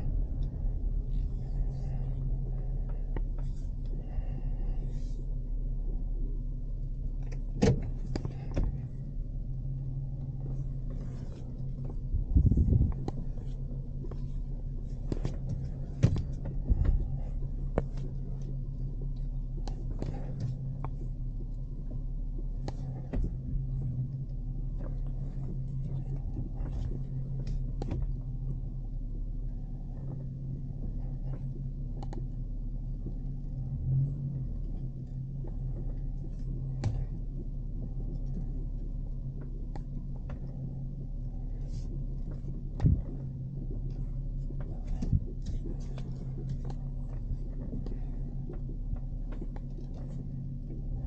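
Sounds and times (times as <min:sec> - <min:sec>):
vehicle engine and road noise: 0:00.0 - 0:51.0.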